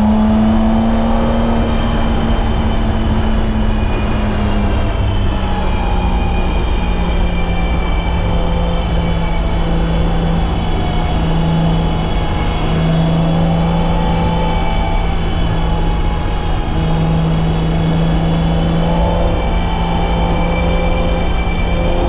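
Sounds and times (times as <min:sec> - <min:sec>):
car engine running: 0:00.0 - 0:22.0
road and tyre noise: 0:00.0 - 0:22.0.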